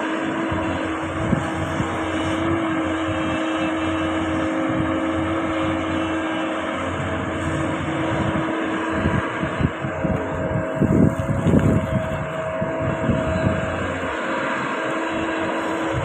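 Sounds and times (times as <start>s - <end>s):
constant hum-like tone: 0.0s - 16.0s
diesel engine running: 0.0s - 16.0s.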